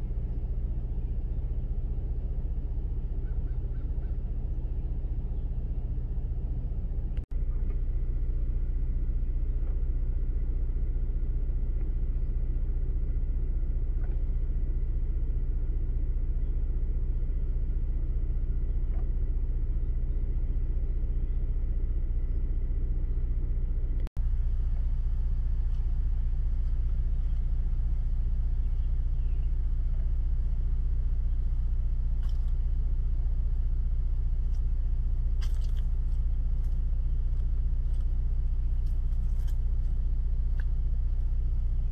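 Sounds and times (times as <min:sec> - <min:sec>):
low background rumble: 0:00.0 - 0:41.9.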